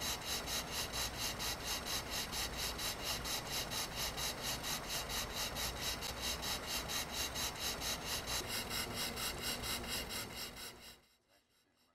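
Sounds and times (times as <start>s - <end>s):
model steam engine running: 0.0s - 11.9s.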